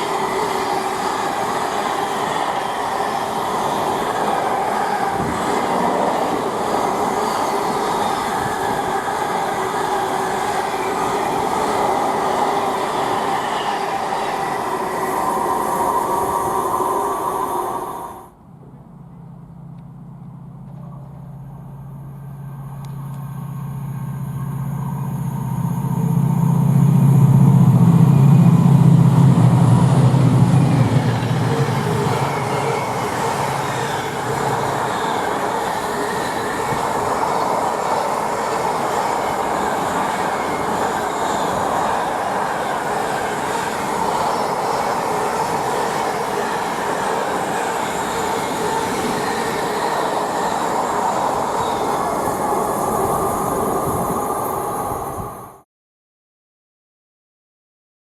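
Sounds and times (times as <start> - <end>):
locomotive passing: 0.0 - 18.3, 21.4 - 55.6
train wagons rolling past: 0.0 - 55.6.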